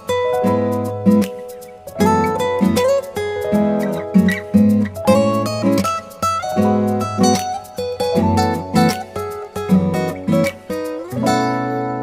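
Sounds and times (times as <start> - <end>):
acoustic guitar plucking: 0.0 - 12.0.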